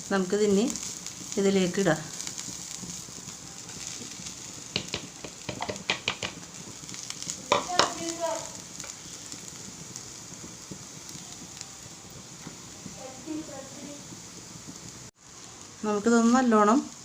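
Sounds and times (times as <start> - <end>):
masala sizzling in a frying pan: 0.0 - 17.0.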